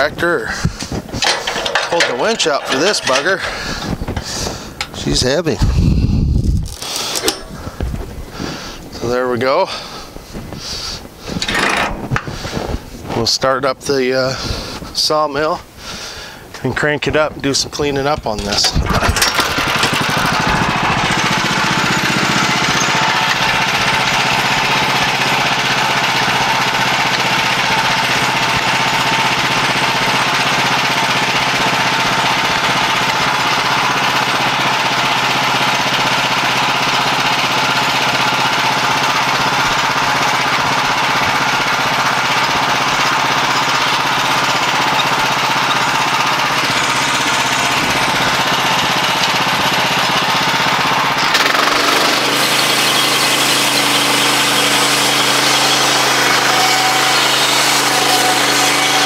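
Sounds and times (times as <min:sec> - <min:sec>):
bandsaw mill cutting log: 0:00.6 - 0:06.0, 0:06.6 - 0:09.9, 0:10.6 - 0:12.8, 0:18.0 - 0:59.0.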